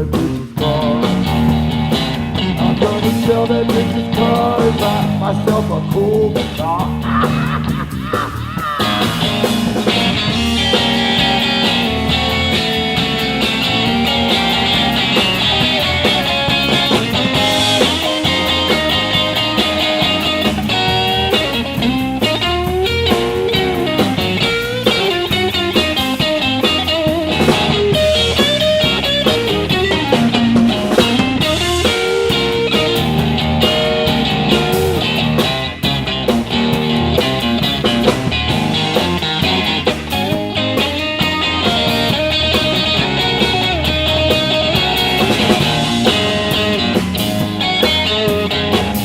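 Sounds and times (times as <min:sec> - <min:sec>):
bass: 0:00.0 - 0:49.0
drums: 0:00.0 - 0:49.0
electric guitar lead: 0:00.0 - 0:49.0.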